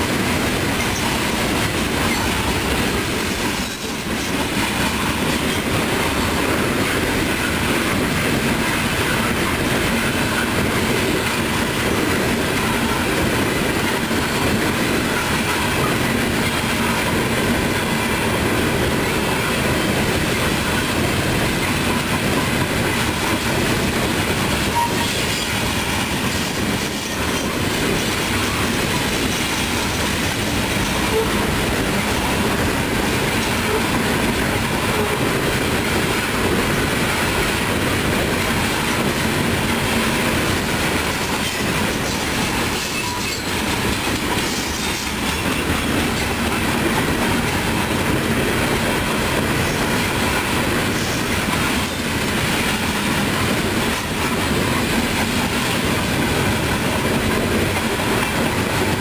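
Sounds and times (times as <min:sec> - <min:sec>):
steel wheels on rails: 0:00.0 - 0:59.0.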